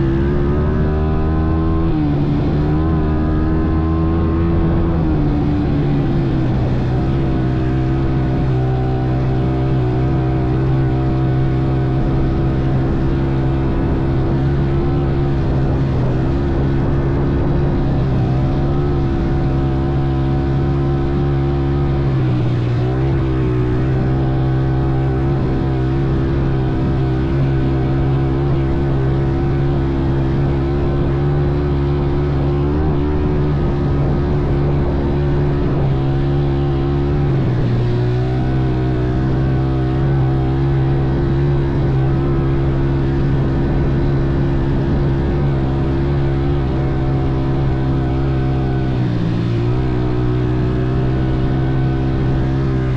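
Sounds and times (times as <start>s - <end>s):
motorbike engine running: 0.0s - 52.9s.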